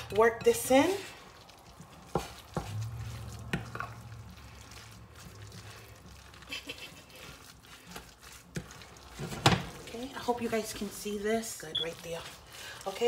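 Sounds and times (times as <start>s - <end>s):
mixture stirred in a bowl: 0.0s - 13.0s.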